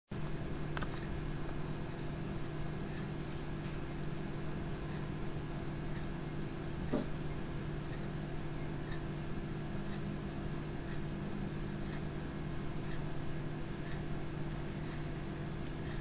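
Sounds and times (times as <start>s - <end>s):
low hum and hiss: 0.1s - 16.0s.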